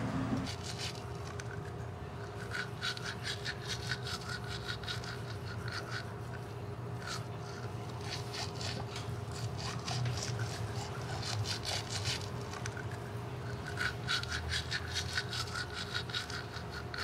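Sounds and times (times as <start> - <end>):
steady low hum: 0.0 - 17.0
toothbrush scrubbing teeth: 0.4 - 17.0.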